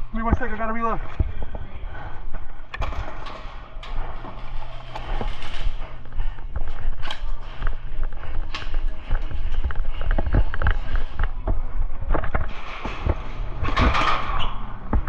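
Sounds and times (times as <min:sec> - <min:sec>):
low rumble of handling noise: 0:00.0 - 0:15.0.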